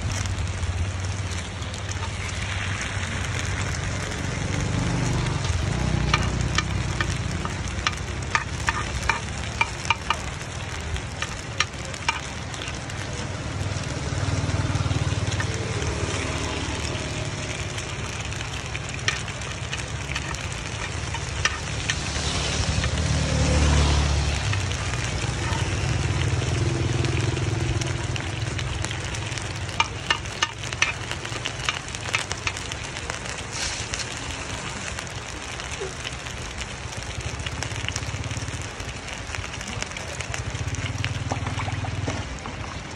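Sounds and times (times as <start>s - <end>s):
cakes sizzling in a pan: 0.0s - 42.9s.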